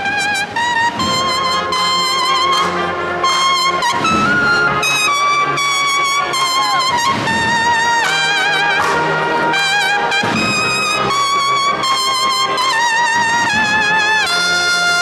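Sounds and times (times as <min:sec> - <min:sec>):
bugles playing a march: 0:00.0 - 0:15.0.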